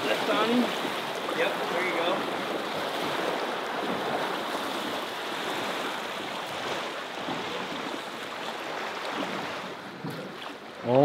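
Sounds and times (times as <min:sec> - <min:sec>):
fast-flowing river water: 0:00.0 - 0:11.0.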